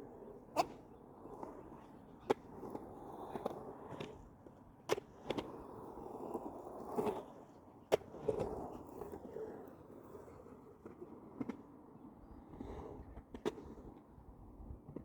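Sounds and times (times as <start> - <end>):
skateboard wheels rumbling: 0.0 - 14.8.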